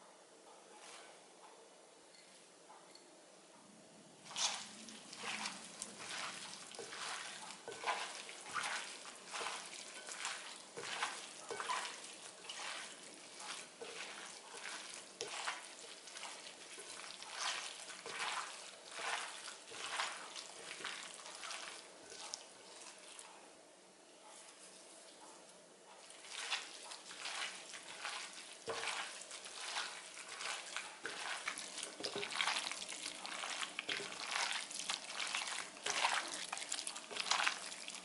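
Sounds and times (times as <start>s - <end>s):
wet squishing of cabbage by hand: 4.2s - 23.5s, 25.9s - 38.0s.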